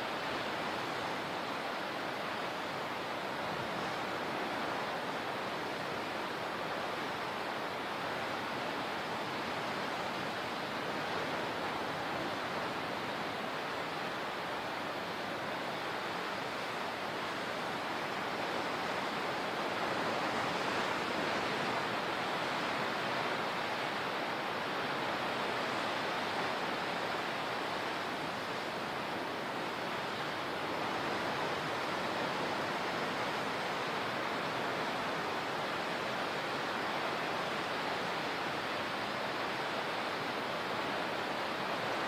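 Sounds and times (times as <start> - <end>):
water rushing: 0.0 - 42.0.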